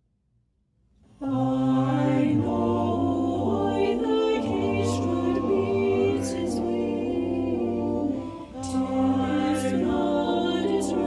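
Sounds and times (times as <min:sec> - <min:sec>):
vocal ensemble singing a cappella: 0:01.1 - 0:11.0.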